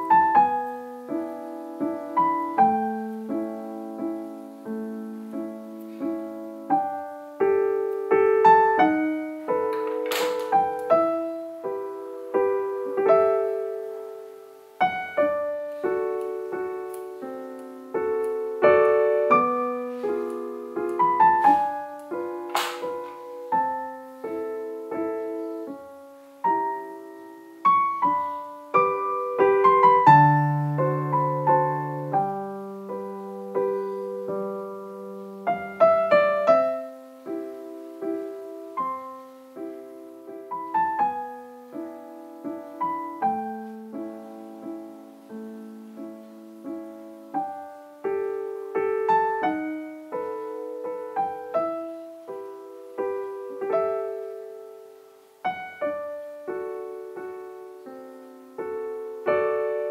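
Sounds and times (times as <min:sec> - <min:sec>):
gentle piano music: 0:00.0 - 0:59.9.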